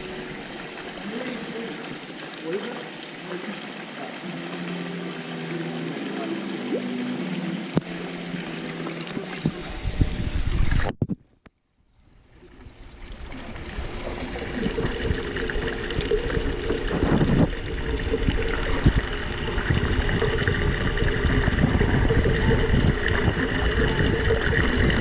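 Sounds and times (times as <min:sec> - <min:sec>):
pool water sloshing and splashing: 0:00.0 - 0:25.0.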